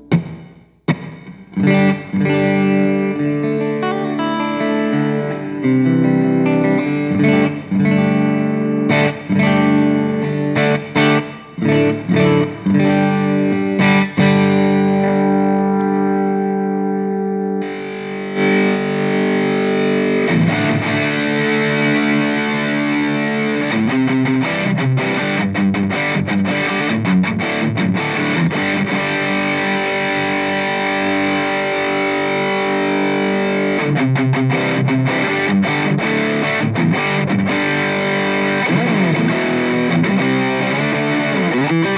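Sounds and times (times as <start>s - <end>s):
electric guitar through amp: 0.0s - 41.9s.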